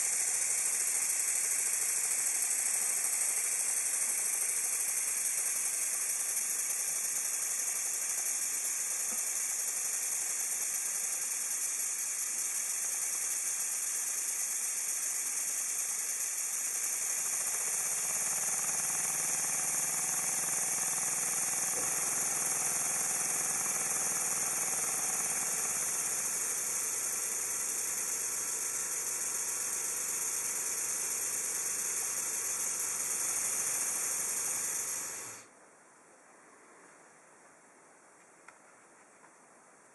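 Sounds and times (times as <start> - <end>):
high air hiss: 0.0 - 35.5
pump mechanical strokes: 0.0 - 35.5.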